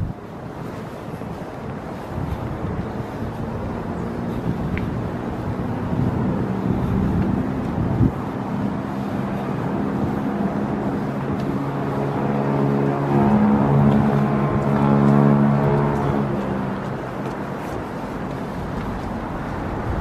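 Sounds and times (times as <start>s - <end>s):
distant vehicle traffic hum: 0.0s - 20.0s.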